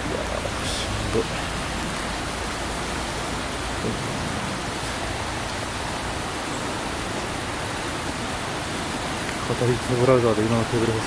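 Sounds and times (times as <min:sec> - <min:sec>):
river water flowing over stones: 0:00.0 - 0:11.0.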